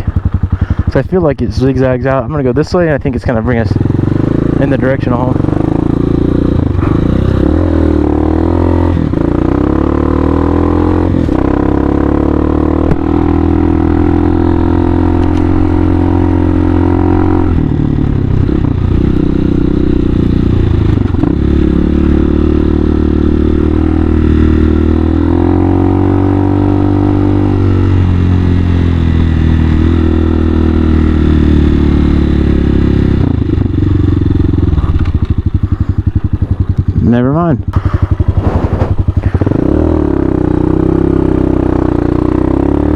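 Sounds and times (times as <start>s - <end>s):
motorcycle engine under load: 0.0s - 42.9s.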